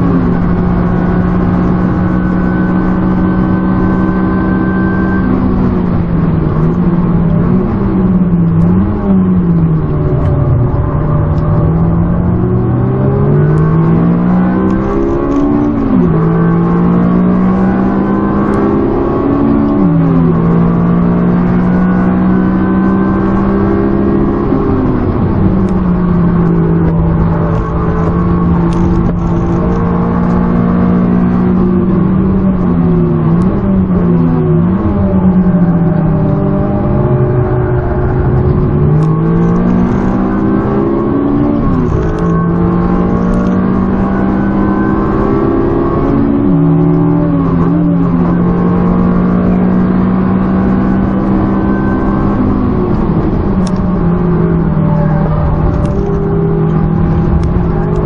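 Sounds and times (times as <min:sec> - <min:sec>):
car engine accelerating: 0:00.0 - 0:58.0
engine rev blips on downshifts: 0:00.0 - 0:58.0.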